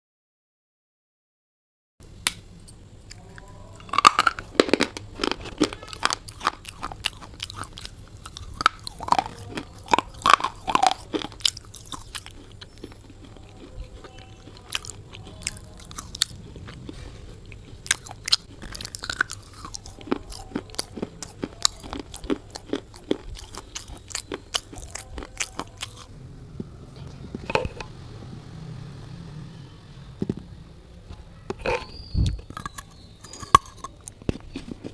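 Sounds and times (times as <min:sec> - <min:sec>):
person chewing brittle pieces: 0:03.0 - 0:27.9, 0:31.1 - 0:34.9.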